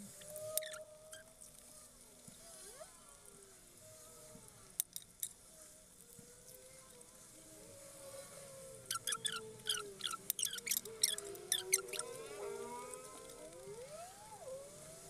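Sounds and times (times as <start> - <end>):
faint wavering hum: 0.0 - 15.0.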